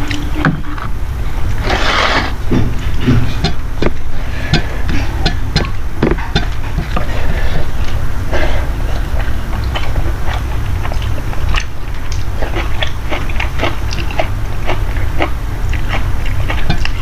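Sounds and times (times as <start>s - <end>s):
steady low hum: 0.0s - 17.0s
person chewing: 1.5s - 17.0s.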